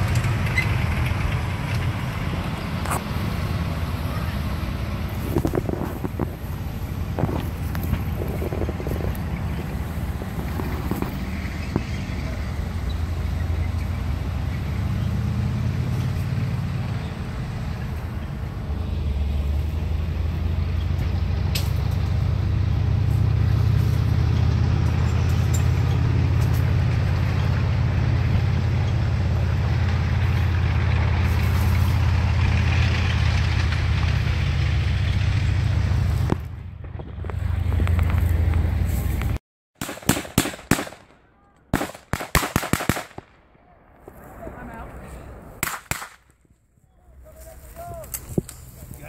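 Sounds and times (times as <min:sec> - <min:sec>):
vehicle engine low rumble: 0:00.0 - 0:49.0.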